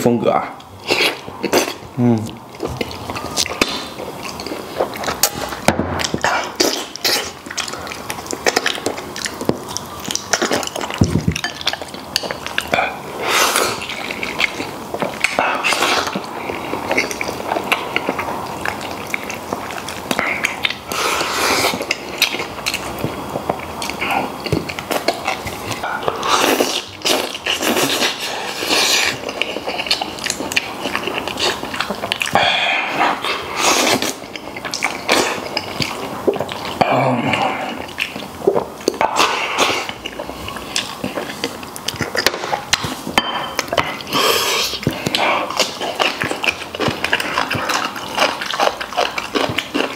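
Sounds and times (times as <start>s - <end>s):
man chewing and slurping: 0.6s - 49.9s.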